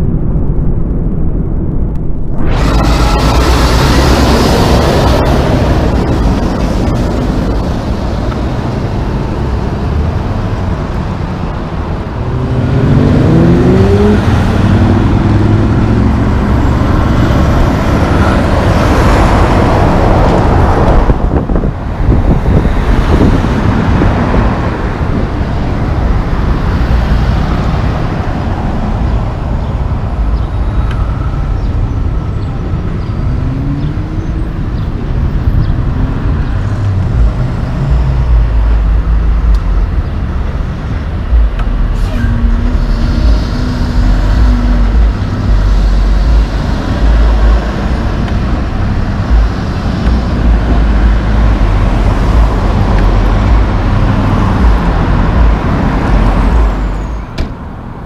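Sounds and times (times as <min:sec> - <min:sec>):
diesel truck engine accelerating: 0:00.0 - 0:58.0
road traffic and tyre noise: 0:00.0 - 0:58.0.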